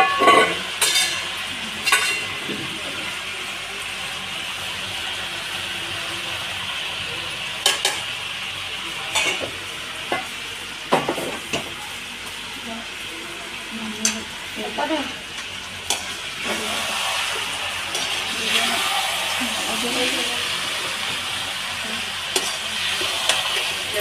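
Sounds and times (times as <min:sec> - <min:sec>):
chicken sizzling in a pot: 0:00.0 - 0:24.0.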